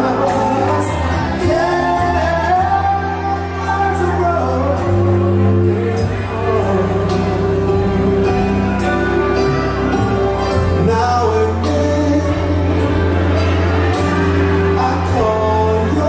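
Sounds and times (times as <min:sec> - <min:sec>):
slow song with singing: 0:00.0 - 0:16.0.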